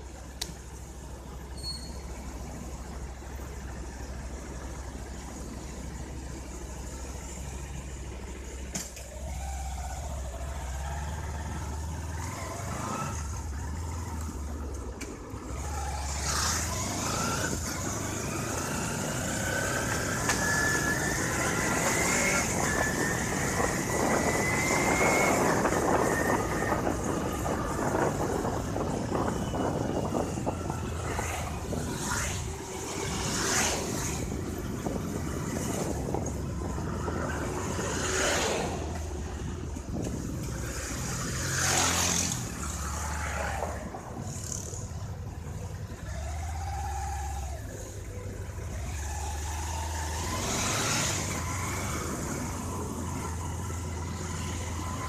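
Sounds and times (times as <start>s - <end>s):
road and wind noise: 0.0s - 55.0s
vehicles passing: 0.0s - 55.0s
vehicle engine accelerating: 1.3s - 55.0s.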